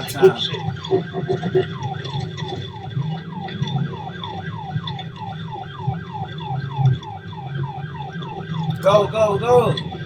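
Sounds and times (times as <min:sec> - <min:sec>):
police siren yelping: 0:00.0 - 0:10.0.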